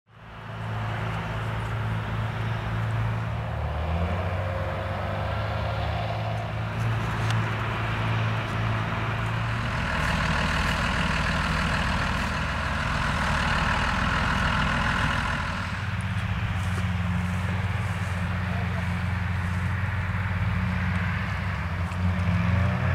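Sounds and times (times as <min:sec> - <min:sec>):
diesel tractor engine under load: 0:00.1 - 0:22.9.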